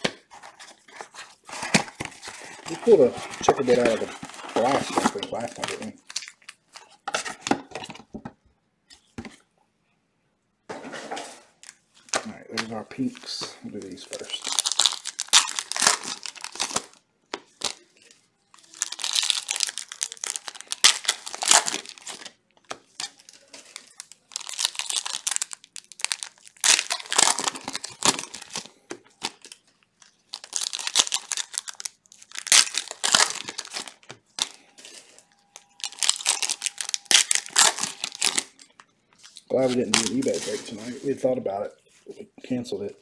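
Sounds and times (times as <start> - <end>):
foil packs crinkling and tearing: 0.8 - 6.9, 11.6 - 41.2.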